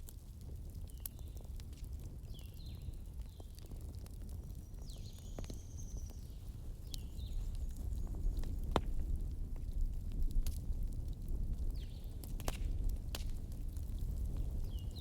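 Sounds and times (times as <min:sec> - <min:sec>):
burning logs crackling: 0:00.0 - 0:15.0.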